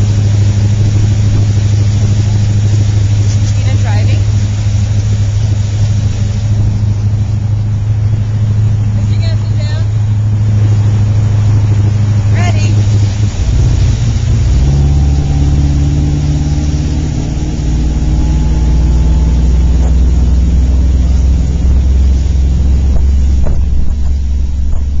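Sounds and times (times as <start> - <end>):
motorboat engine drone: 0.0 - 25.0
water rushing past hull: 0.0 - 25.0
wind on microphone: 0.0 - 25.0.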